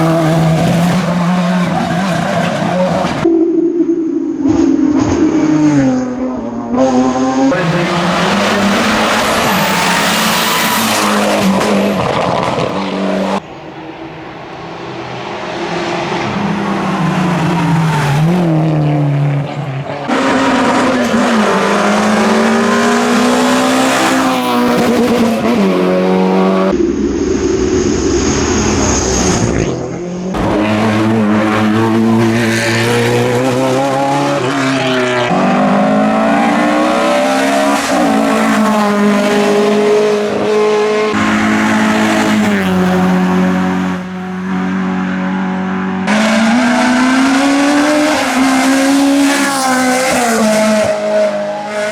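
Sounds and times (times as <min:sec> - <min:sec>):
race car engines revving: 0:00.0 - 0:51.9.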